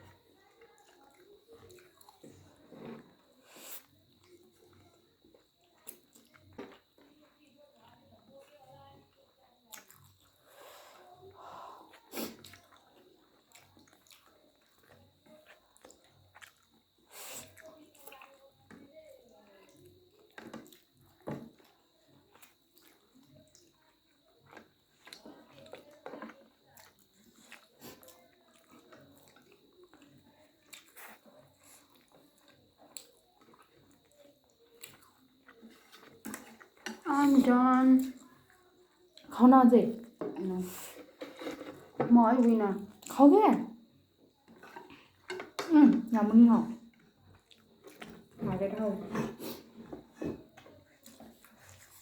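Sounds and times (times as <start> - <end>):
people chewing and slurping: 0.0 - 8.7, 9.6 - 52.0.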